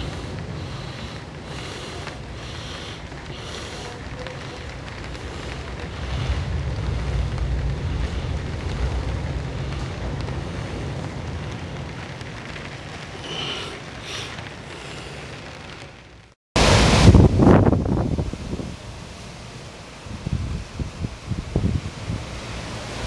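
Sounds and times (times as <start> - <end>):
wind buffeting microphone: 0.0 - 15.9, 16.6 - 19.2, 19.9 - 23.0
storm surf breaking: 0.0 - 23.0.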